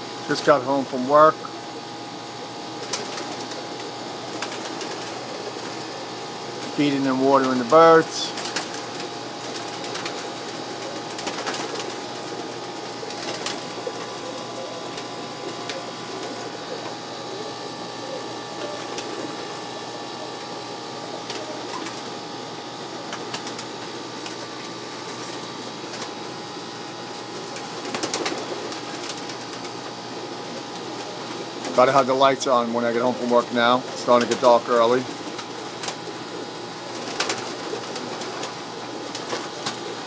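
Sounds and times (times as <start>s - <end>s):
pigeons cooing: 0.0s - 40.0s.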